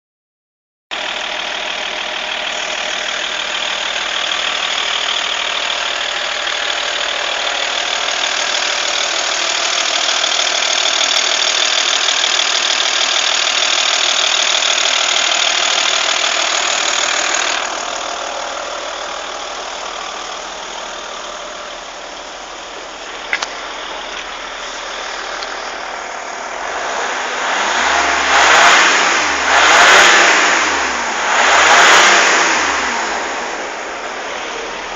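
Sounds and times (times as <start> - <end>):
car engine running: 0.9 - 34.9.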